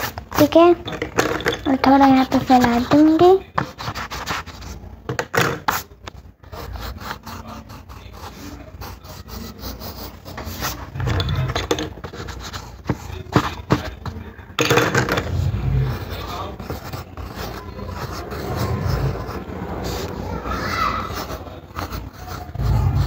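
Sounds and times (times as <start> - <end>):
pencil scratching on paper: 0.0 - 4.8, 5.6 - 14.1, 15.3 - 23.0.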